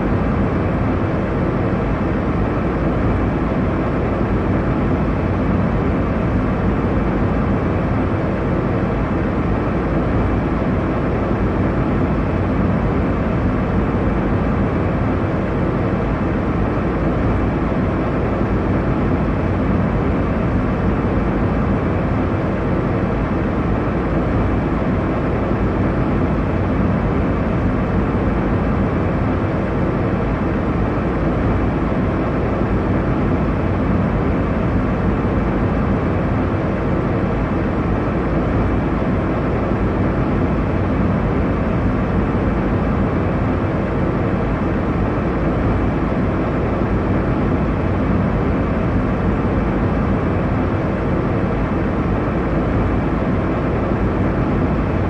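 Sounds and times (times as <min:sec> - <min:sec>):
engine and airflow rumble: 0:00.0 - 0:55.0
faint steady hum: 0:00.0 - 0:55.0.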